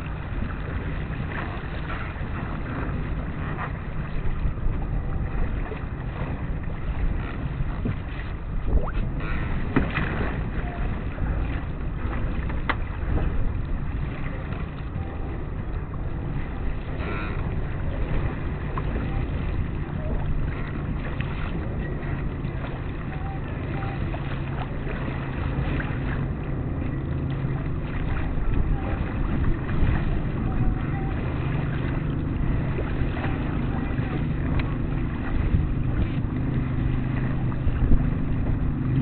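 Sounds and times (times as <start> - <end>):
water noise: 0.0 - 39.0
wind rush on microphone: 0.0 - 39.0.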